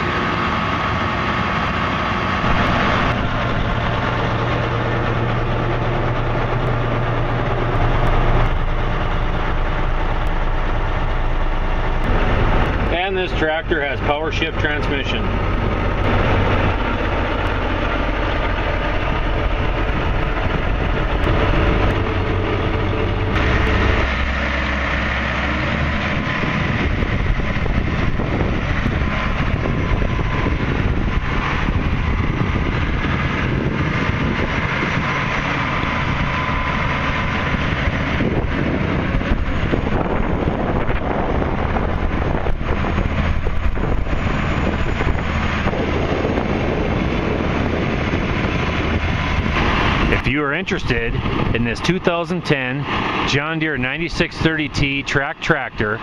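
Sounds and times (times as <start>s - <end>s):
diesel engine running: 0.0s - 56.0s
tractor moving on tracks: 0.0s - 56.0s.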